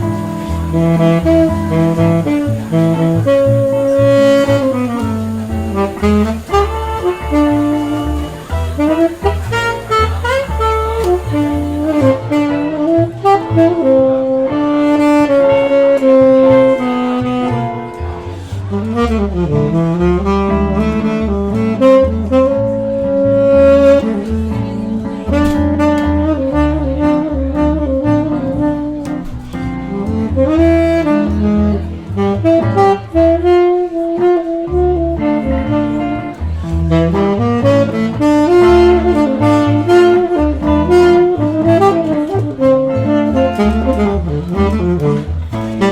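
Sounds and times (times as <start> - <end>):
bass notes: 0.0 - 45.9
saxophone jazz solo: 0.0 - 45.9.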